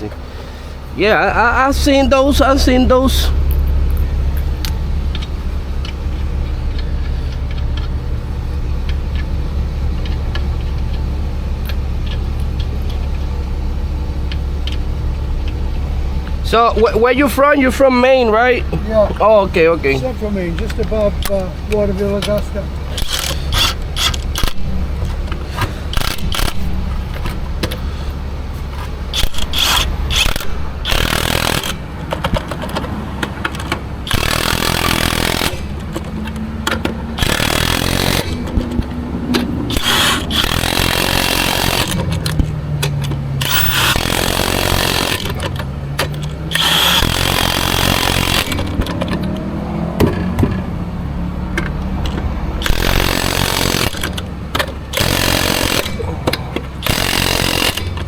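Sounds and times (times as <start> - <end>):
impact wrench spinning lug nuts: 0.0 - 58.0
steady low hum: 0.0 - 58.0.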